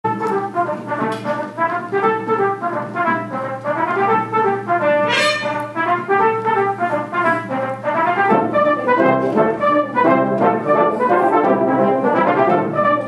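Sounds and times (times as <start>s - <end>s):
brass band playing: 0.1s - 13.0s.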